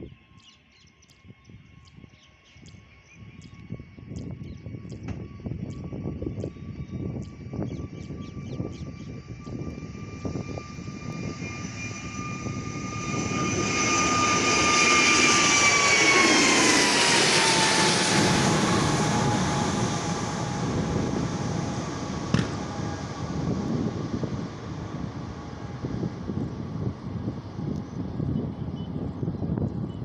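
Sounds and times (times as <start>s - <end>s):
jet engines passing: 1.2s - 30.0s.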